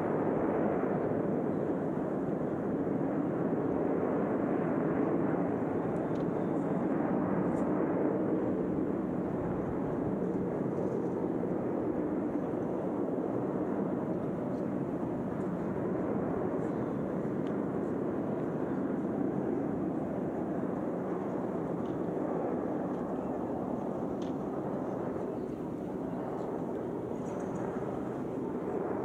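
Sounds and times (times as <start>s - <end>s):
jet engines rumbling: 0.2s - 29.0s.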